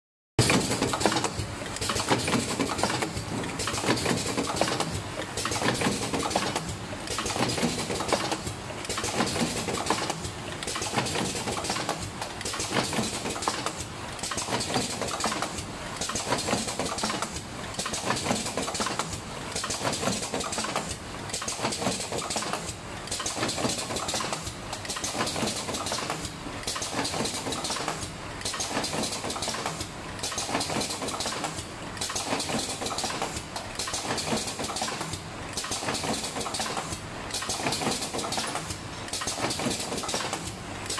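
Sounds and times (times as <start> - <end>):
packing machine clatter: 0.4 - 40.9.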